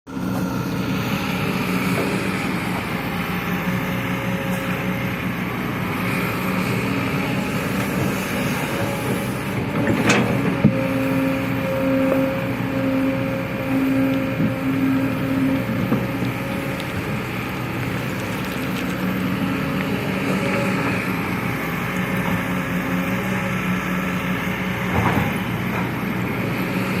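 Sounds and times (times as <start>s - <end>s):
diesel engine running: 0.1s - 27.0s.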